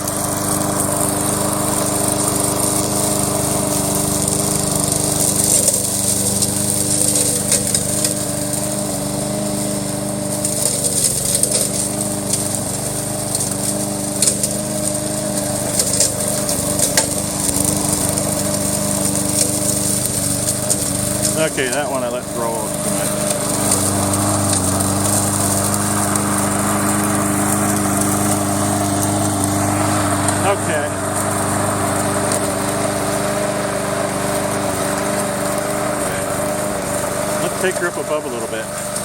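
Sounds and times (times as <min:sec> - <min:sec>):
lawn mower engine humming: 0:00.0 - 0:39.0.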